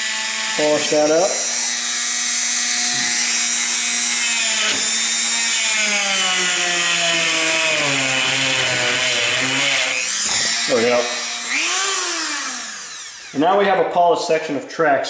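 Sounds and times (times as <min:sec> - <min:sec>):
rotary tool motor whine: 0:00.0 - 0:13.4.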